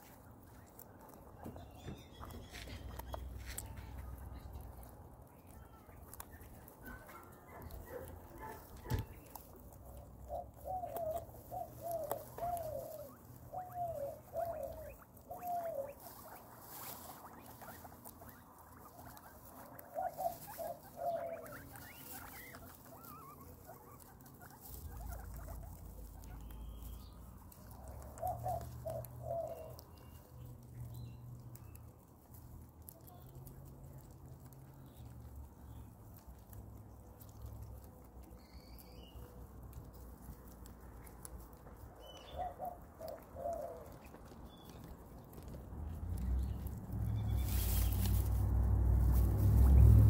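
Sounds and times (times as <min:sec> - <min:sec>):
guinea pig squeaks: 0:00.0 - 0:50.0
guinea pigs crunching food: 0:00.0 - 0:50.0.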